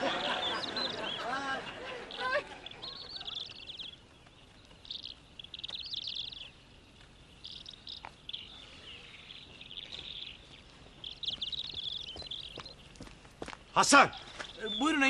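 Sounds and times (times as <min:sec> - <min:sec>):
faint outdoor background noise: 0:00.0 - 0:15.0
small birds chirping: 0:00.0 - 0:15.0.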